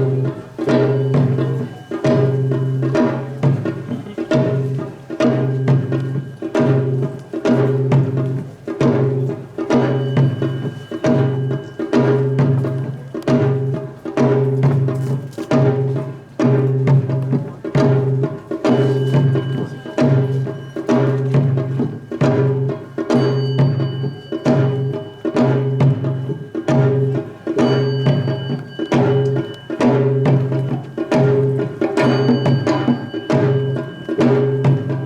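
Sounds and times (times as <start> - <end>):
percussion ensemble of gongs and drums: 0.0 - 35.0.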